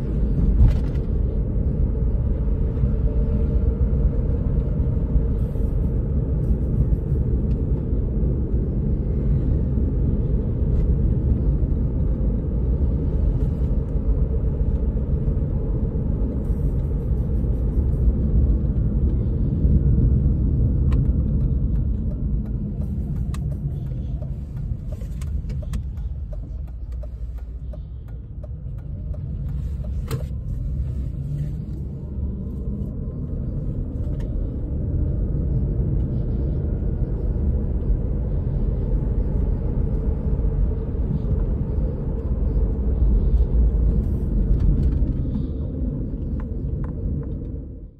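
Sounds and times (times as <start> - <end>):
road and tyre rumble in car: 0.0 - 47.9.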